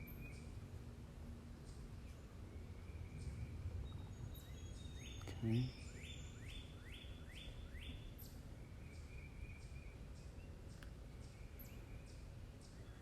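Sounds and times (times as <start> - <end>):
birds singing: 0.0 - 13.0
low steady rumble: 0.0 - 13.0.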